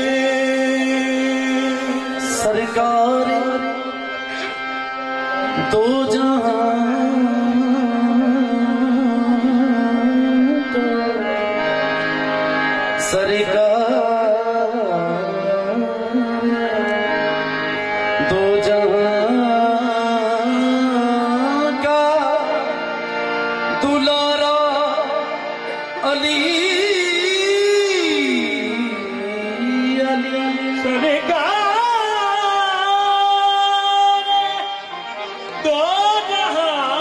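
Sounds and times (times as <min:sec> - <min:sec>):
harmonium drone: 0:00.0 - 0:37.0
men singing devotional melody: 0:00.0 - 0:37.0
tabla: 0:00.0 - 0:37.0.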